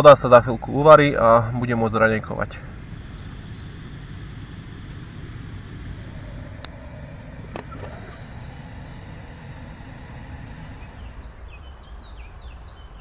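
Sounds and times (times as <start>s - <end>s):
gas stove burner hissing: 0.0s - 11.6s.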